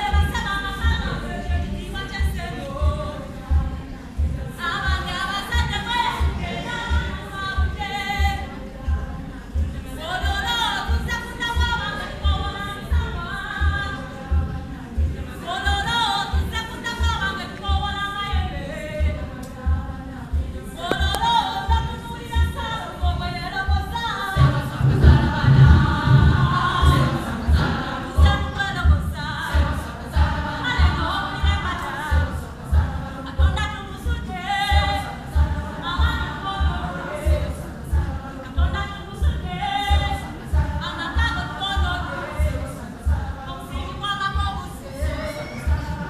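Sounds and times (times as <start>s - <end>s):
choir singing: 0.0s - 46.0s
steady low beat: 0.0s - 46.0s.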